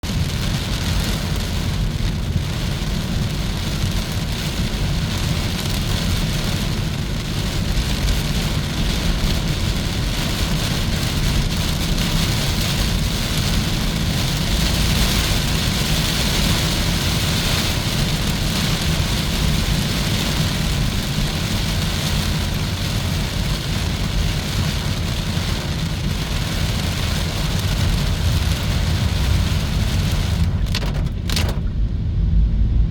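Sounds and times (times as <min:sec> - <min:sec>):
tyre rumble on road: 0:00.0 - 0:32.9.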